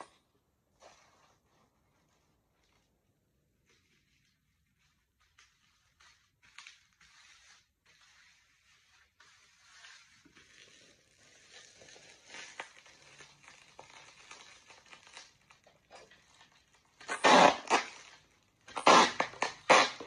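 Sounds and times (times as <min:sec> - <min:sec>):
bubble wrap crinkling: 0:00.8 - 0:20.0.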